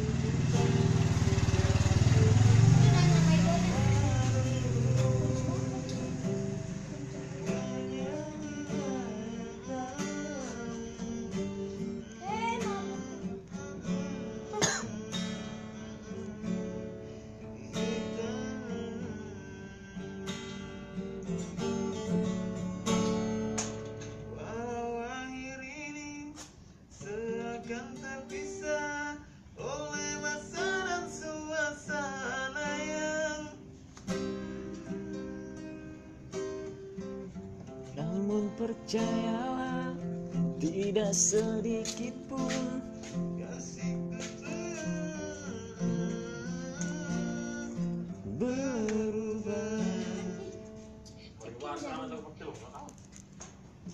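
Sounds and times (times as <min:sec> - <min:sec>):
person singing: 0:00.0 - 0:20.8, 0:27.0 - 0:33.6, 0:34.5 - 0:36.6, 0:37.8 - 0:51.3
plucked acoustic guitar: 0:00.0 - 0:53.9.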